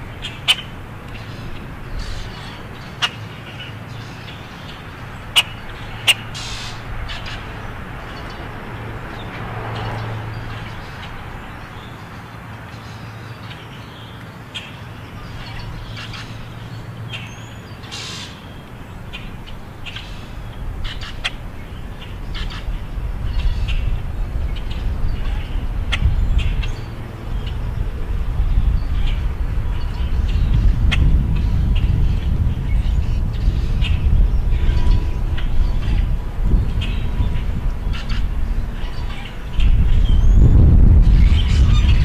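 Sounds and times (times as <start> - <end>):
blackbirds calling: 0.0 - 42.0.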